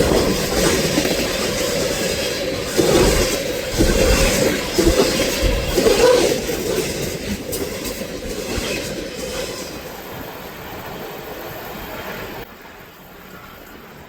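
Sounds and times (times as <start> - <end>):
freight train cars clattering past: 0.0 - 14.0.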